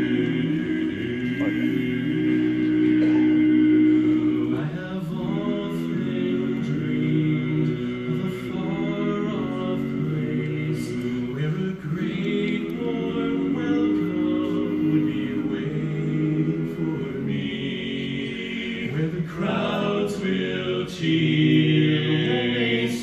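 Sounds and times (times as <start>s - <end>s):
male quartet singing a cappella: 0.0s - 23.0s.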